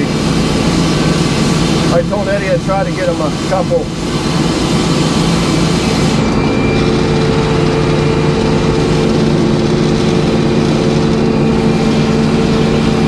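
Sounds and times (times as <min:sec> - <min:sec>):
engine hum: 0:00.0 - 0:13.0
hissing noise: 0:00.0 - 0:13.0.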